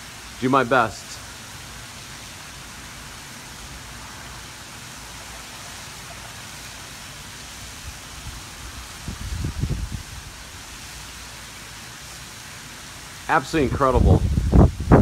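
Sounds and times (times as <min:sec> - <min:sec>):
outdoor ambient hiss: 0:00.0 - 0:15.0.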